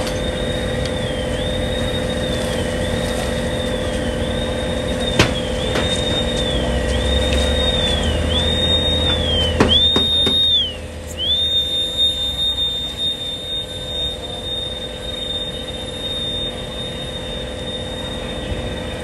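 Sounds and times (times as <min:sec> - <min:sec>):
fire hose spraying water: 0:00.0 - 0:19.0
high-pitched whistling tone: 0:00.0 - 0:19.0.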